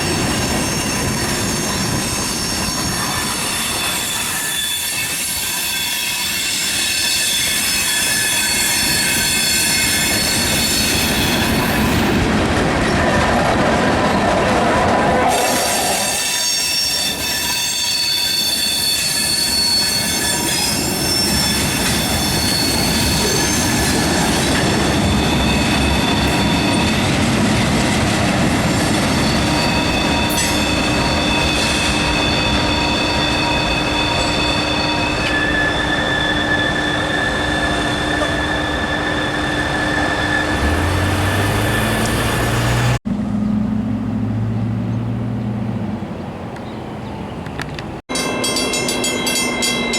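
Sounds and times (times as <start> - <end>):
train wheels squealing: 0.0 - 12.2, 15.3 - 43.0, 48.2 - 49.9
rumble and clatter of train cars: 0.0 - 43.0, 44.3 - 49.9.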